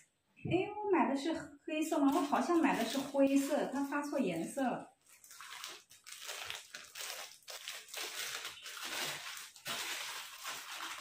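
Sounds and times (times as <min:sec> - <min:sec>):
plastic packaging crinkling: 0:01.9 - 0:11.0.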